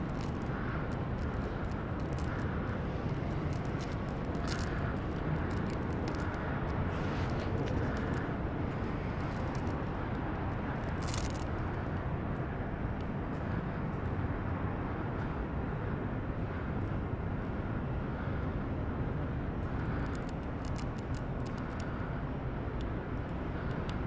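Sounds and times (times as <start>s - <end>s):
city ambience rumble: 0.0s - 24.0s.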